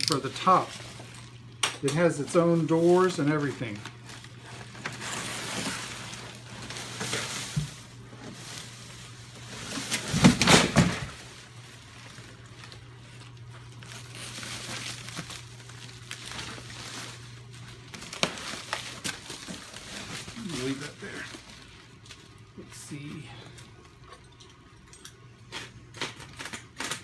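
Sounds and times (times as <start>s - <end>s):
bubble wrap rustling and crinkling: 0.0s - 23.2s
faint steady hum: 0.0s - 27.0s.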